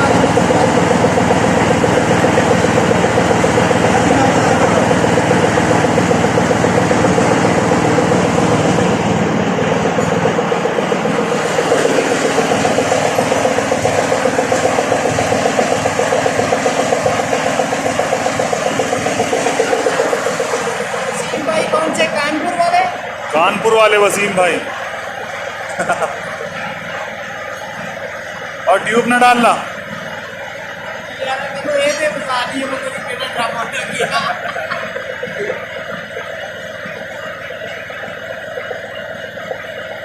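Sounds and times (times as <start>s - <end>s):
engine running with fast pulse: 0.0s - 40.0s.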